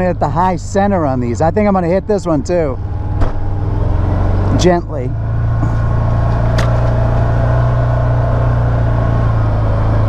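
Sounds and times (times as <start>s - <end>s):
engine running at low speed: 0.0s - 10.0s.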